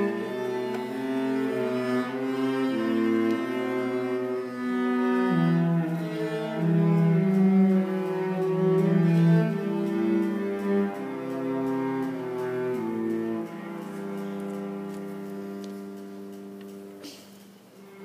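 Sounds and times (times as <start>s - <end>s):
two cellos playing slowly: 0.0s - 18.0s.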